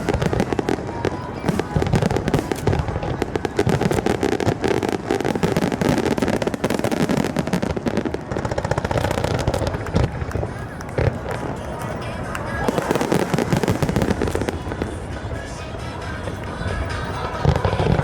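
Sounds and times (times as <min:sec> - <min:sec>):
fireworks bursting and crackling: 0:00.0 - 0:18.0.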